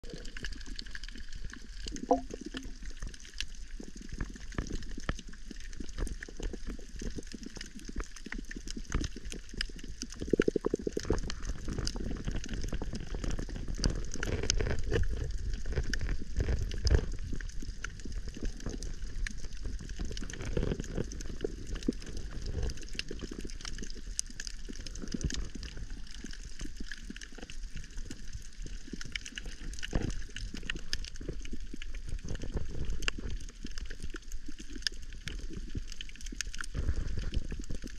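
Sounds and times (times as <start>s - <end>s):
dense crackle of short clicks: 0.1s - 37.9s.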